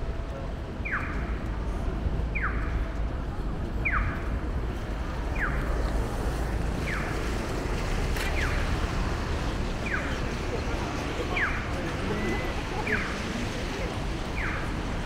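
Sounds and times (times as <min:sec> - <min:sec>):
rumbling street noise: 0:00.0 - 0:15.0.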